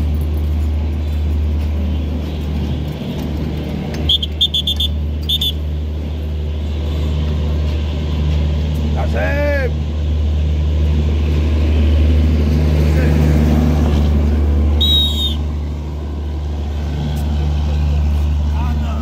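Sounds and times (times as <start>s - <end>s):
train diesel engine drone: 0.0s - 19.0s.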